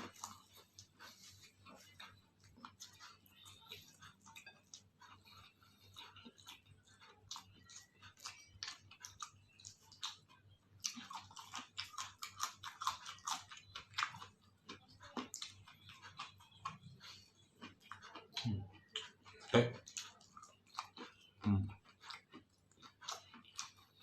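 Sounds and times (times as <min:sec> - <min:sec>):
chewing crunchy food: 0:00.0 - 0:24.0.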